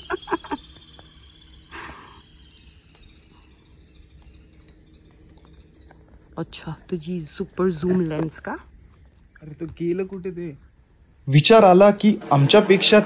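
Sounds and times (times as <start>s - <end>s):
faint high insect buzz: 0.0s - 13.0s.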